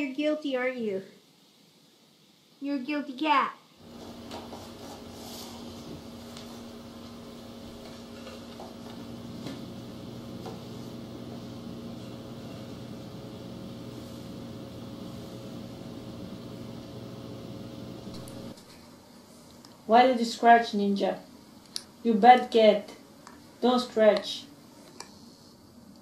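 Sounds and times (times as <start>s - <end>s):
electrical appliance hum: 3.8s - 26.0s.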